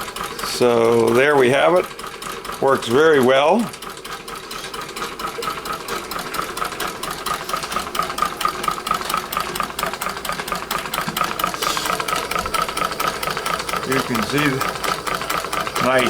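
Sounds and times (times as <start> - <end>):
hot air engine clicking: 0.0 - 16.0.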